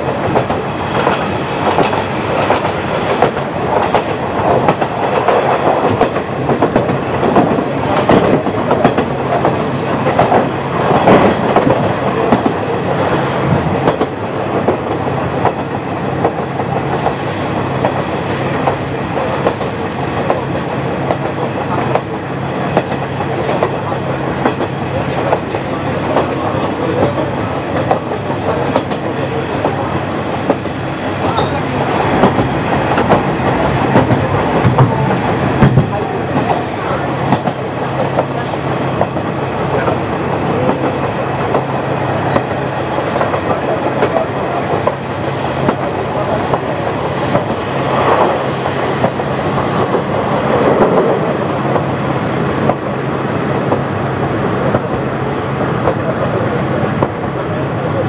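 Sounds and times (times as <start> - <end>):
train wheels clacking on rail joints: 0.0 - 22.1, 24.4 - 52.0.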